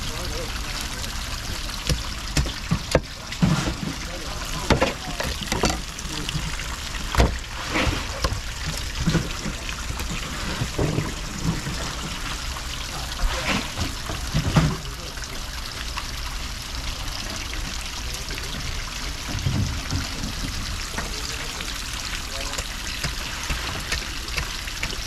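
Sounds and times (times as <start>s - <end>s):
water running and trickling: 0.0s - 25.0s.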